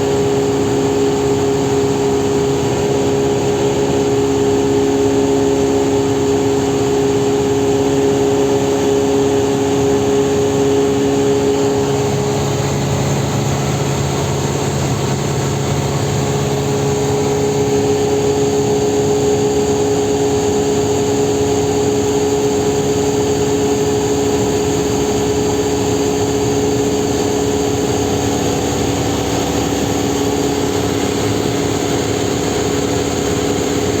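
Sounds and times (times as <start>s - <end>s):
airplane engine and propeller hum: 0.0s - 34.0s.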